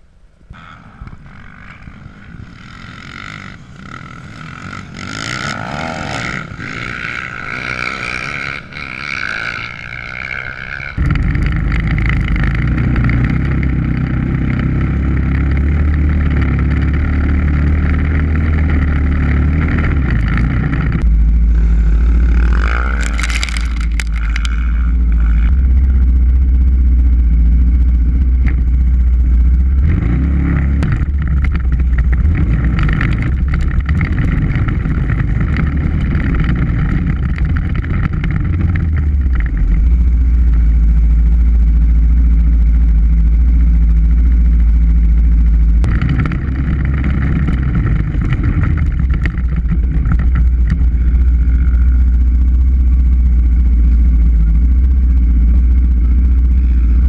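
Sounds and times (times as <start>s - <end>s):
loud low rumble: 0.0s - 57.0s
dirt bike engines revving: 0.5s - 57.0s.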